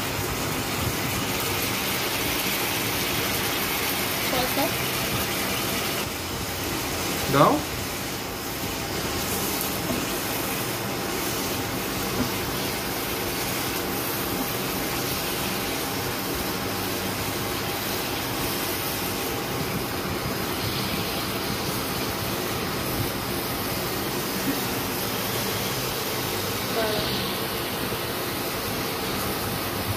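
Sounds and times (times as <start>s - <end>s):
rushing kitchen noise: 0.0s - 29.9s.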